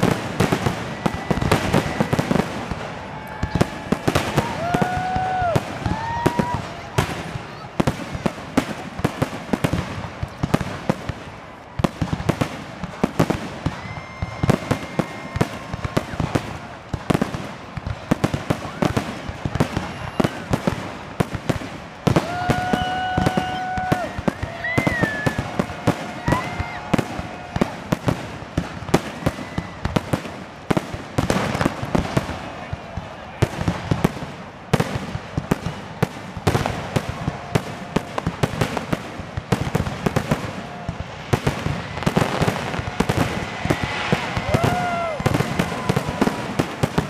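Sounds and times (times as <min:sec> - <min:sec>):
fireworks bangs and crackles: 0:00.0 - 0:47.0.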